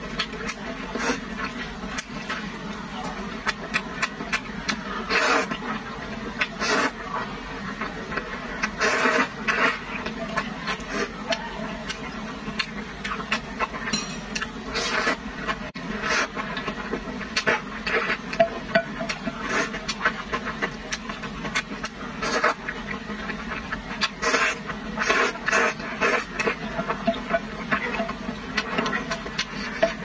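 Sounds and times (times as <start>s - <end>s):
noodles slurped and chewed: 0.1s - 30.0s.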